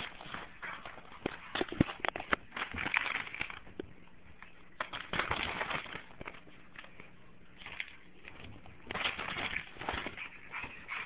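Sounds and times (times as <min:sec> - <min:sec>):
puppy chewing paper: 0:00.0 - 0:11.0.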